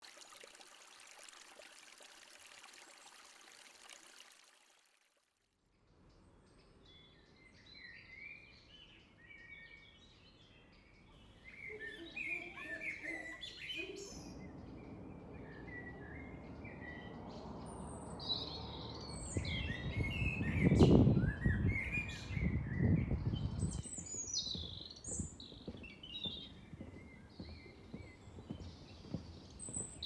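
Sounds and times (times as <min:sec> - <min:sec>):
songbirds chirping: 0:05.7 - 0:30.0.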